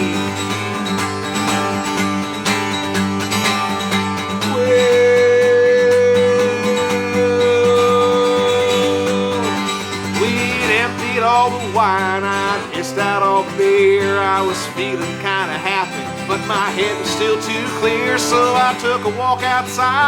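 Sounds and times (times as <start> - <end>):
country music with acoustic guitar: 0.0 - 20.0.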